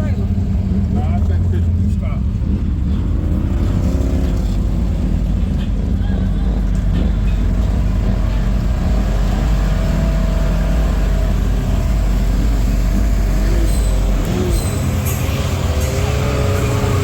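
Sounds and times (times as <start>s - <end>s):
atv engine rumbling: 0.0s - 17.0s.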